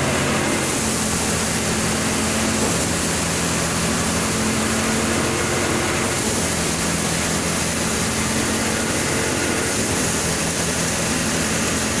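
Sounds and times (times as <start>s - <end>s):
straw and chaff rushing out: 0.0s - 12.0s
thresher machine droning: 0.0s - 12.0s.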